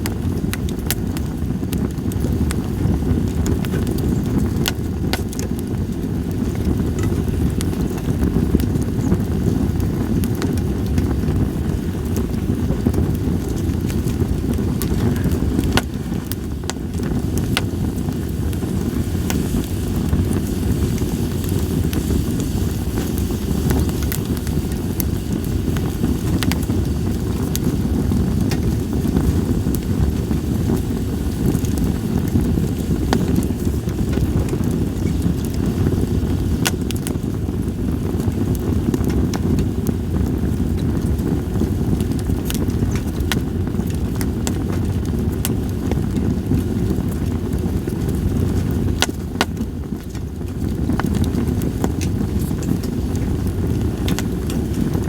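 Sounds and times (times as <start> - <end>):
fire low rumble: 0.0 - 55.0
firewood crackling and popping: 0.0 - 55.0.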